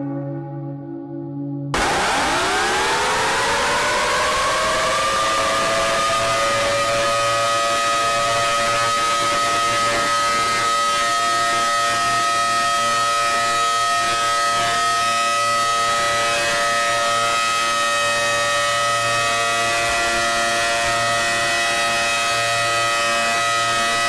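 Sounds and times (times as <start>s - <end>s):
electronic alarm chord: 1.8s - 24.0s.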